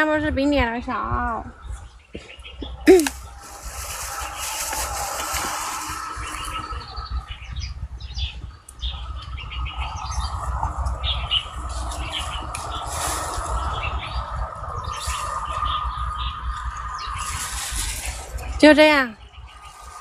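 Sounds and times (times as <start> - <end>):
low rumble: 0.0 - 20.0
small birds chirping: 0.0 - 20.0.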